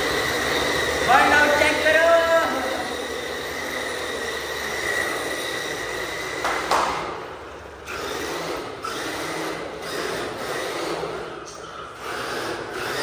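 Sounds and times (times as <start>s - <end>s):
electric rc car motor whine: 0.0s - 6.7s, 7.7s - 13.0s.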